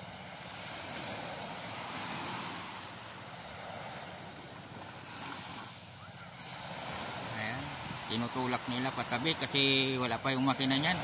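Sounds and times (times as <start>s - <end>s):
wind on microphone: 0.0s - 9.9s
small waves washing on sand: 0.0s - 11.0s.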